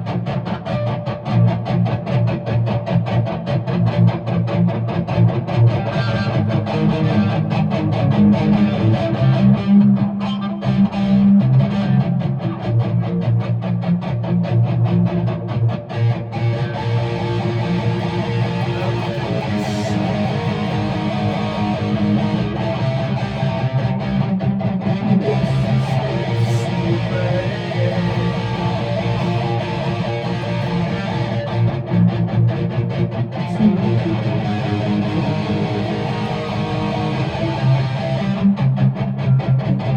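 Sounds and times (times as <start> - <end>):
guitar playing: 0.0 - 39.9.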